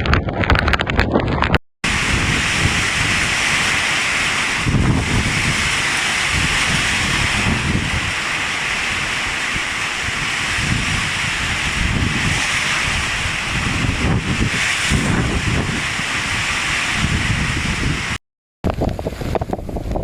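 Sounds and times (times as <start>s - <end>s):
wind gusting on microphone: 0.0s - 20.0s
floodwater rushing: 1.8s - 18.2s.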